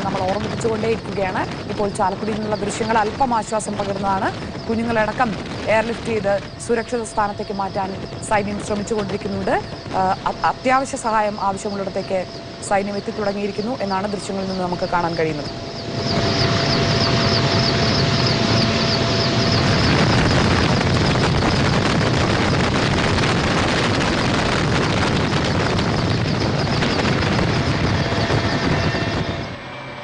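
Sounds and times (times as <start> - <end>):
helicopter rotor and turbine: 0.0 - 30.0.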